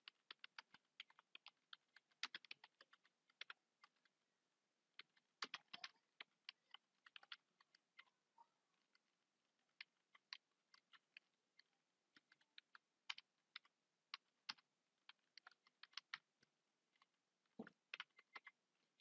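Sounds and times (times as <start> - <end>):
keyboard typing: 0.0 - 4.1, 5.0 - 8.2, 9.7 - 19.0.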